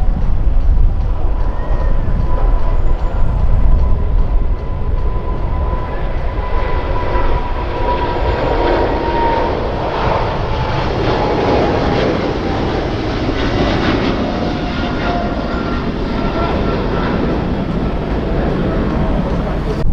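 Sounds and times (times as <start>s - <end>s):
jet engines rumbling and whining: 0.0s - 19.9s.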